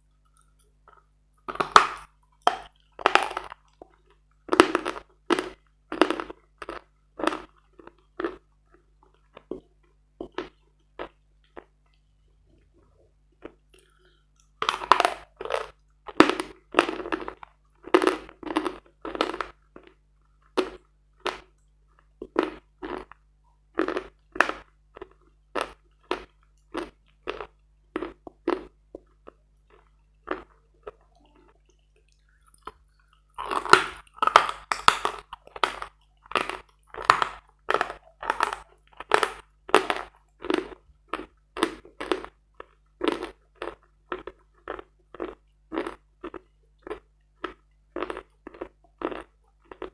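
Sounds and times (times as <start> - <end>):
chalk crunching while chewed: 0.0 - 12.0, 13.4 - 49.9.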